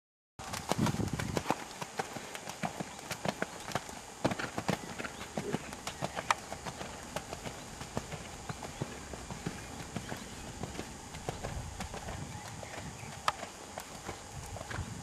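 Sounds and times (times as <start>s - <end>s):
hoofbeats on sand: 0.4s - 15.0s.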